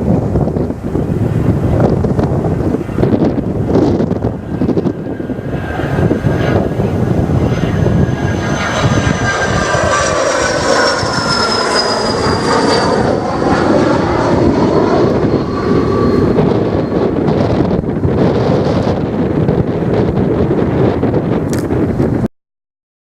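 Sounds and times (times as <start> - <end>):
jet engines passing: 0.0 - 22.2
wind on microphone: 0.0 - 22.3.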